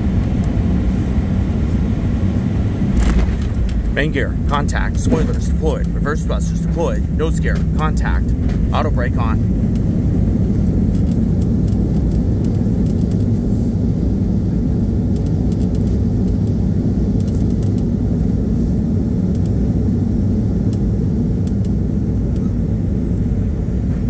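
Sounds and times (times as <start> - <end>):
jet engines low rumble: 0.0 - 24.0.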